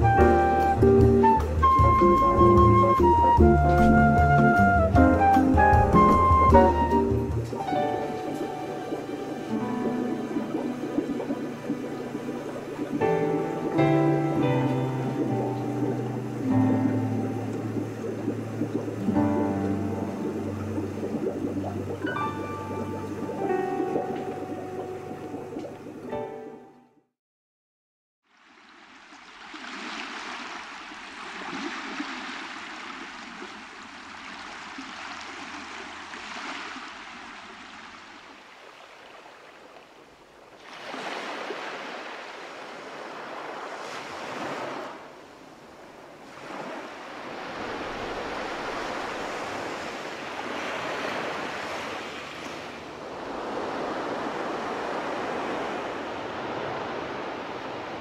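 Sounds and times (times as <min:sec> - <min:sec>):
ocean waves breaking: 0:00.0 - 0:26.1, 0:28.4 - 0:58.0.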